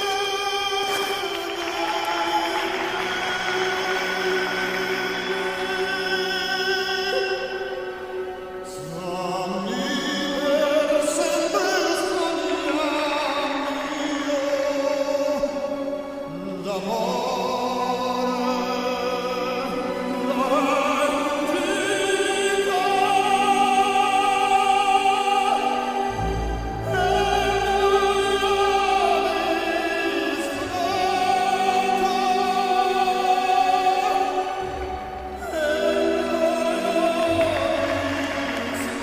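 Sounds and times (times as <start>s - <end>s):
operatic singing: 0.0s - 39.0s
orchestra playing: 0.0s - 39.0s.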